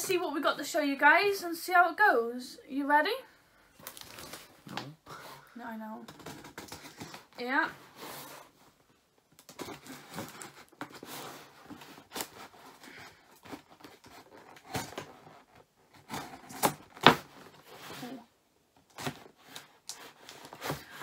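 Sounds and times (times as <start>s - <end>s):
cardboard rustling and scraping: 3.9s - 21.0s.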